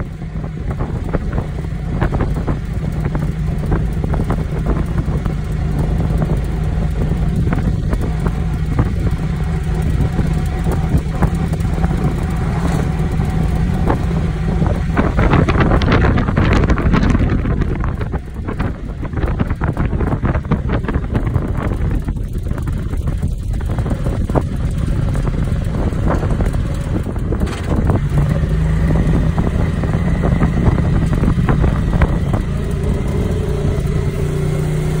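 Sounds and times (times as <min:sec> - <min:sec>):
road noise: 0:00.0 - 0:35.0
vehicle engine hum: 0:00.0 - 0:35.0
wind buffeting microphone: 0:00.0 - 0:35.0.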